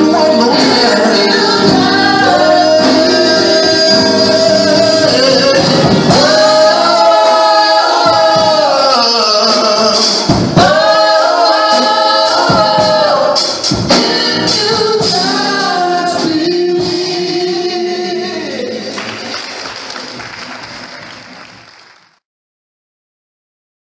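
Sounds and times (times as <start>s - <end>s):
instrumental backing: 0.0s - 19.3s
gospel choir singing in harmony: 0.0s - 20.0s.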